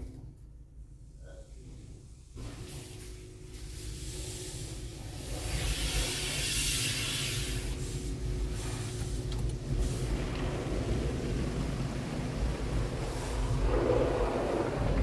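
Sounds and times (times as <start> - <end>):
car wash equipment rumbling: 0.0 - 15.0.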